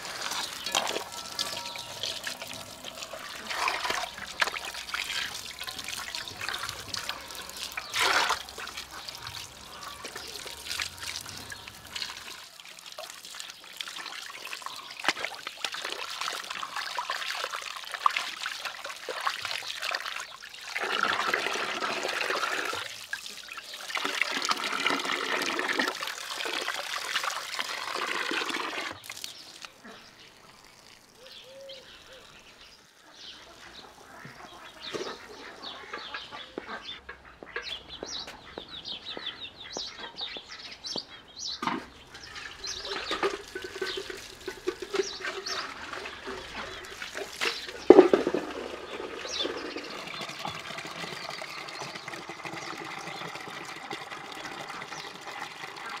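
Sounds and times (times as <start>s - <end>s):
water splashing in metal basin: 0.0s - 31.2s, 41.6s - 56.0s
faint outdoor background: 0.0s - 56.0s.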